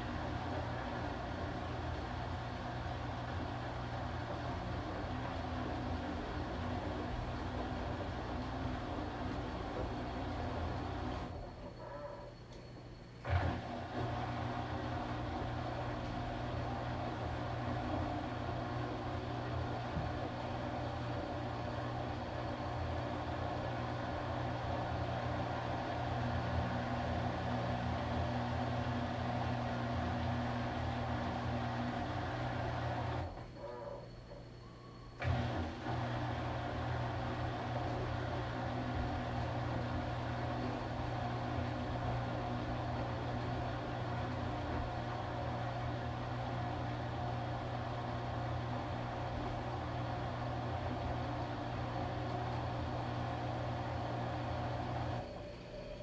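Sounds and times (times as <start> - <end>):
washing machine motor humming: 0.0 - 12.0, 13.3 - 34.0, 35.2 - 56.0.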